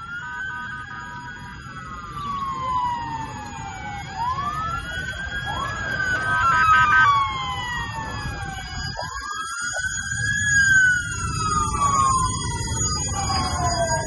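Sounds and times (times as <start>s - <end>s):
emergency sirens wailing: 0.0s - 14.0s.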